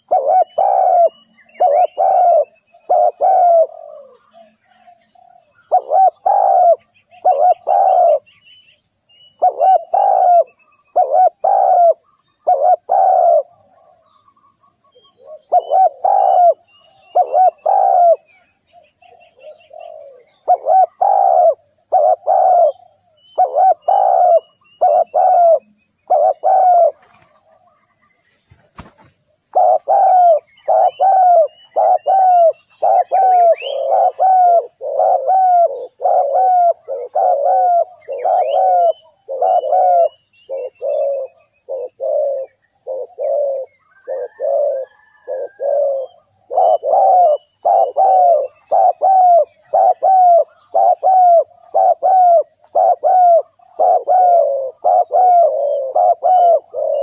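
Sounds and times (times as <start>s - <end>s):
doves cooing: 0.0s - 8.3s, 9.3s - 57.0s
small birds chirping: 0.0s - 57.0s.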